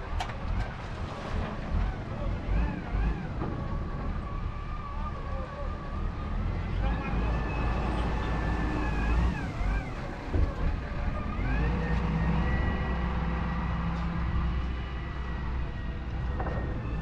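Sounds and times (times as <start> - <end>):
diesel engine heavy rumble: 0.0 - 17.0.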